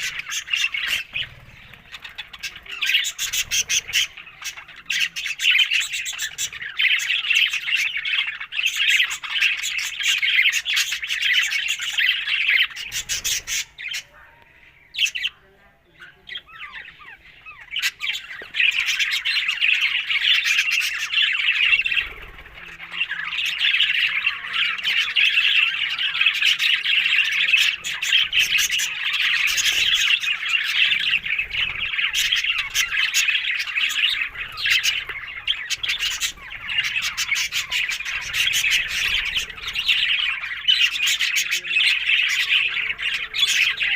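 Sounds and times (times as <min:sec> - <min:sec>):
parrots chattering and squawking: 0:00.0 - 0:43.9.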